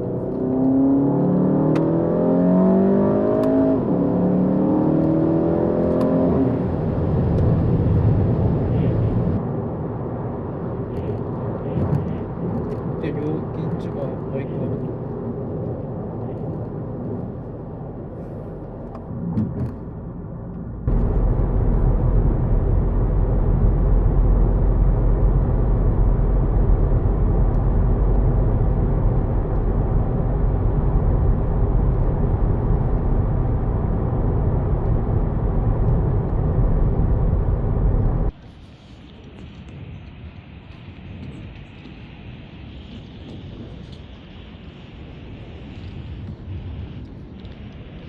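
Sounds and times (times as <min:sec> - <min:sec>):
car engine and road drone: 0:00.0 - 0:48.0.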